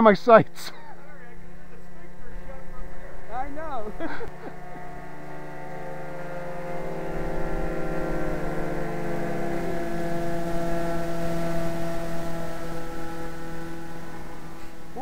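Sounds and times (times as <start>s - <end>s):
model airplane engines droning: 0.0s - 15.0s.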